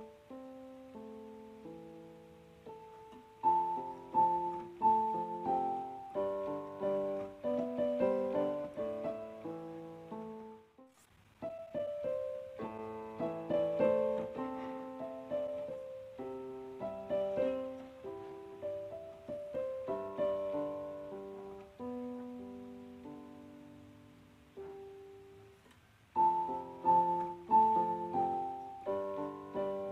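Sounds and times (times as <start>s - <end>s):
slow piano melody: 0.0s - 29.9s.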